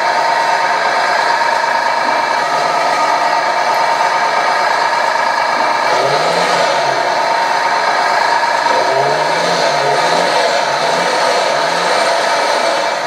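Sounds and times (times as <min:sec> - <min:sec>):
simulated diesel engine idling: 0:00.0 - 0:13.0.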